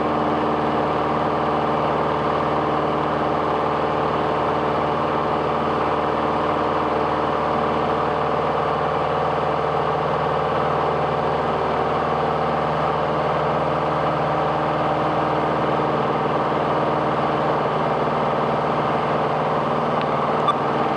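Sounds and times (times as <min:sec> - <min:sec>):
steady engine drone: 0:00.0 - 0:20.9.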